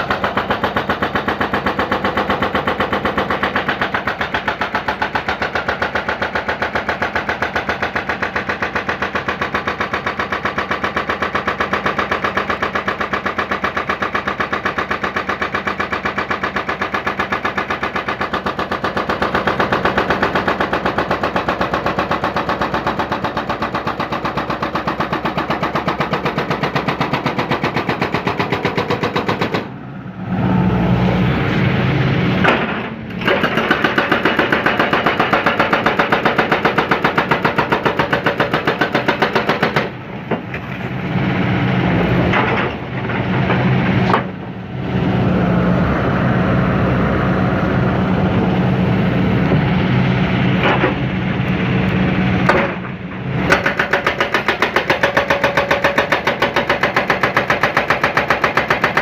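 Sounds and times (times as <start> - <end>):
hydraulic breaker pounding concrete: 0.0 - 29.7, 32.4 - 40.9, 42.0 - 44.6, 50.5 - 59.0
excavator engine running: 0.0 - 59.0.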